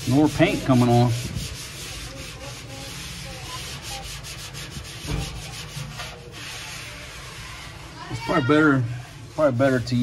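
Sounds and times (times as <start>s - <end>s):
sponge rubbing metal wall: 0.0s - 10.0s.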